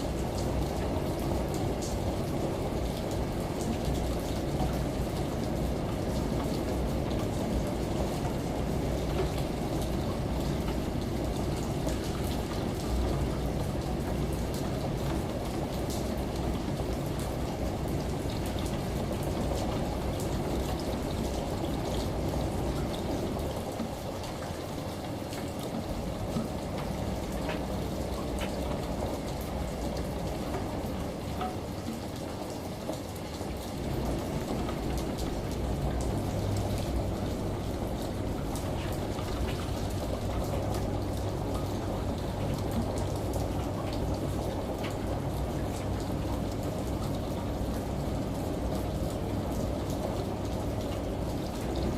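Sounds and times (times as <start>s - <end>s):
shower water running: 0.0s - 51.9s
steady rain: 0.0s - 51.9s
washing machine hum: 0.0s - 51.9s.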